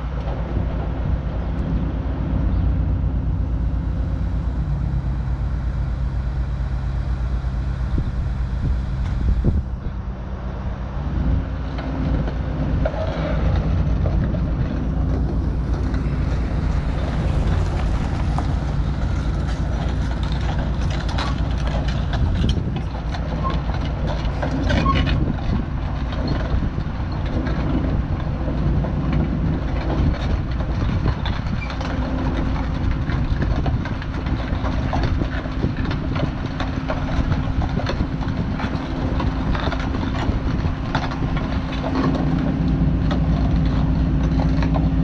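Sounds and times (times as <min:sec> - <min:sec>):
diesel engine changing speed: 0:00.0 - 0:45.0.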